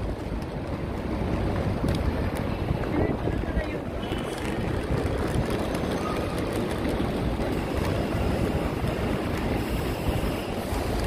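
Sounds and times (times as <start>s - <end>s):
bus engines idling: 0.0s - 11.0s
traffic rumble: 0.0s - 11.0s.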